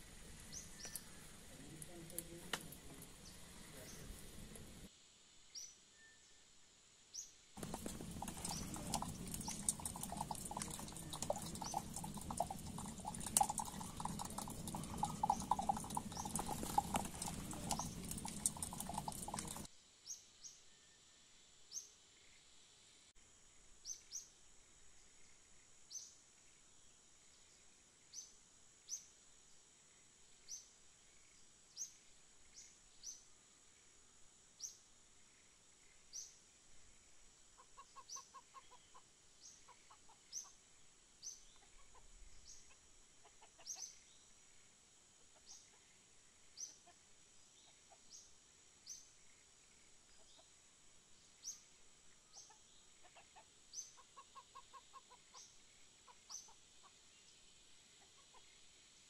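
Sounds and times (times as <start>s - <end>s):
quiet rural ambience: 0.0s - 59.0s.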